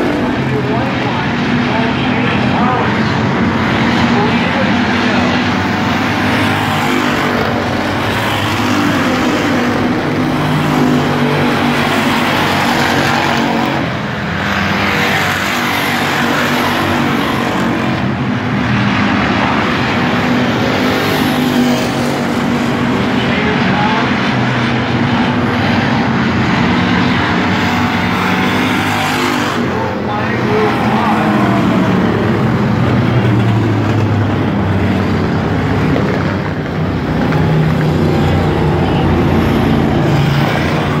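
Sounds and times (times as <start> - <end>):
stock car engines racing: 0.0 - 41.0.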